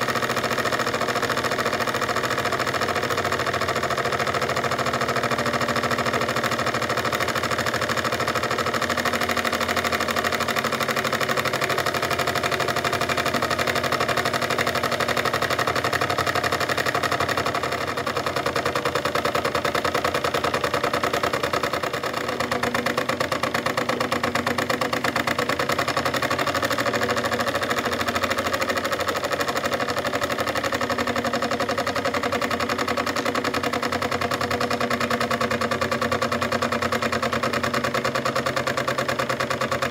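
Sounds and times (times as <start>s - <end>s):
model steam engine running: 0.0s - 39.9s.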